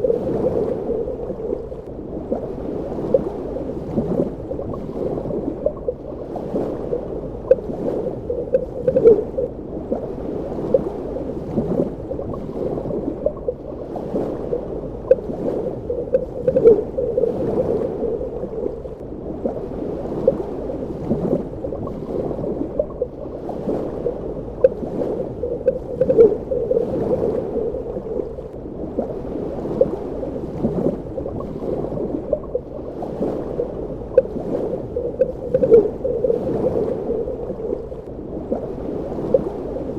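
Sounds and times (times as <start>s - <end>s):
bubbling and gurgling: 0.0s - 39.9s
muffled underwater water wash: 0.0s - 39.9s.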